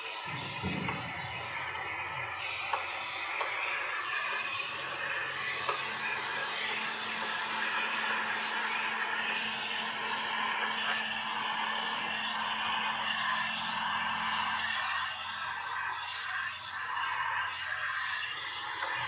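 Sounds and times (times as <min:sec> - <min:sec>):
heat gun fan hissing: 0:00.0 - 0:19.0.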